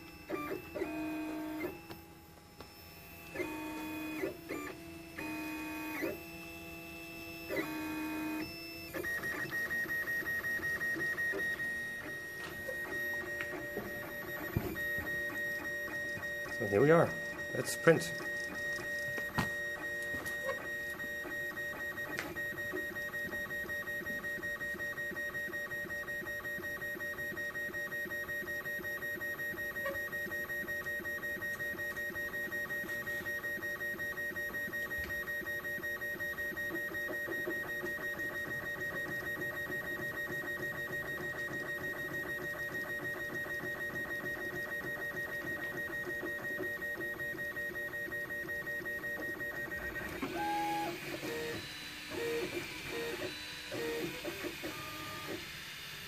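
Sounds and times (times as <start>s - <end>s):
printer stepper motors buzzing: 0.0s - 56.0s.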